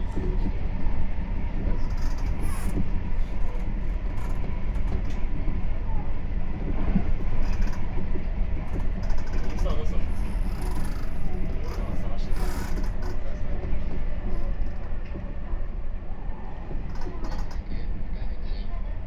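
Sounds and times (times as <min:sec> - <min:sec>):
train wheels rumbling on rails: 0:00.0 - 0:18.6.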